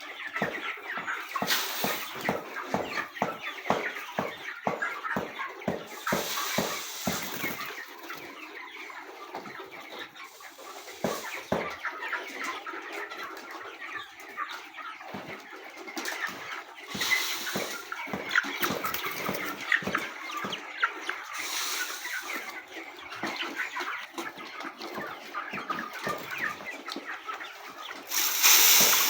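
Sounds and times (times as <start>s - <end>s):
chicks chirping and clucking: 0.0s - 29.0s.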